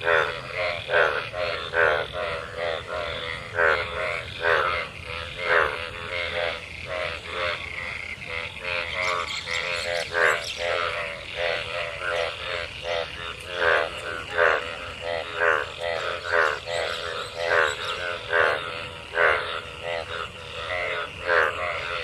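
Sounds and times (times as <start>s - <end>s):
frogs croaking in chorus: 0.0s - 22.0s.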